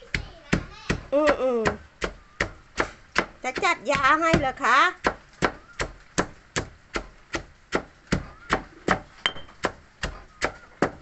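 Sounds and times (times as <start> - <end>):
food being chopped by hand: 0.0 - 11.0.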